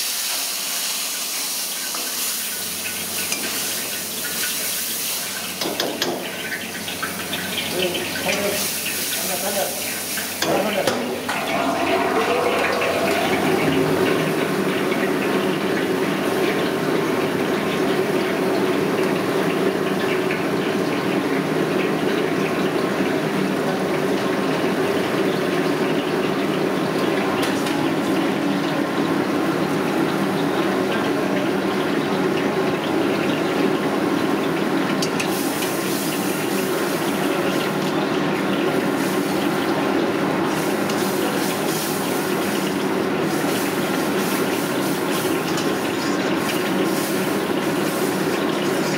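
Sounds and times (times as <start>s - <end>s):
liquid boiling and sizzling: 0.0s - 48.9s.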